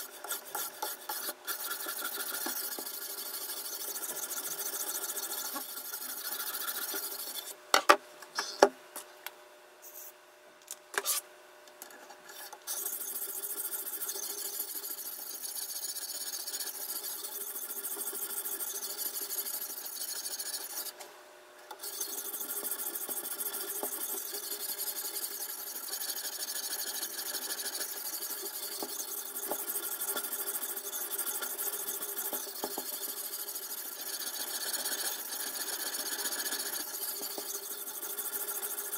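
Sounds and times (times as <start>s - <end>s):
sharpening stone scraping knife: 0.0s - 7.5s, 12.4s - 20.9s, 21.8s - 38.9s.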